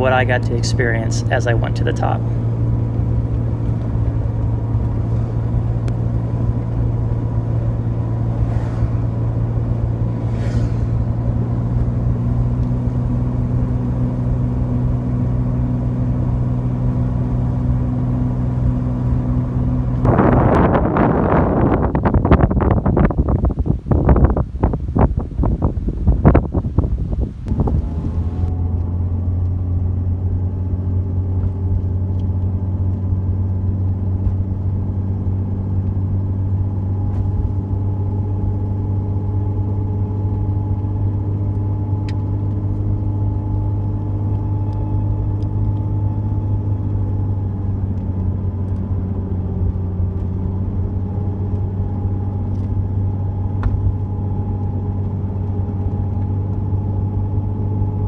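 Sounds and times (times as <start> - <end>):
car engine drone: 0.0 - 58.0
road and tyre noise: 0.0 - 58.0.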